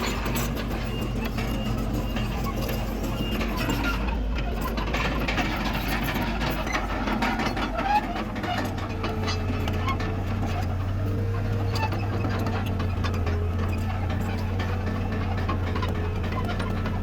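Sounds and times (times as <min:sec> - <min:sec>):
heavy machinery diesel engine: 0:00.0 - 0:17.0.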